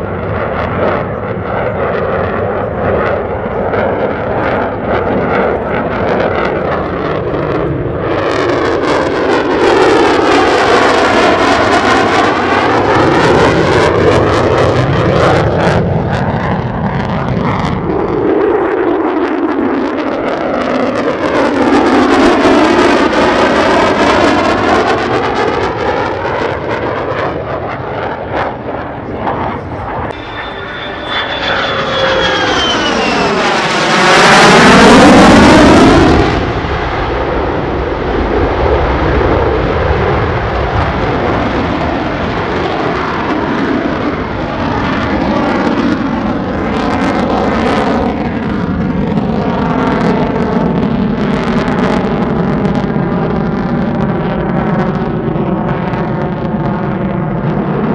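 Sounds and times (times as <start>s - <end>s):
jet afterburner rumble: 0.0s - 57.9s
jet whine: 0.0s - 57.9s.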